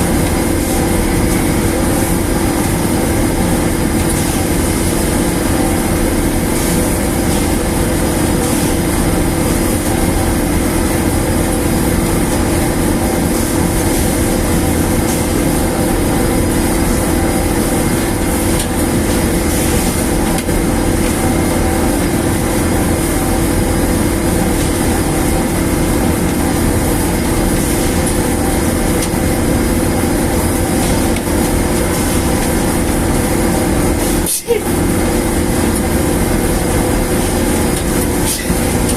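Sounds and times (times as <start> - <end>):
dryer machine drone: 0.0 - 38.9.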